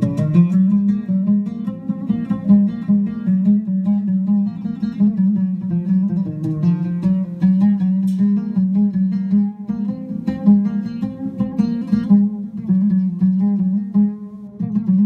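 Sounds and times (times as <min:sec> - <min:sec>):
oud plucked melody: 0:00.0 - 0:15.0.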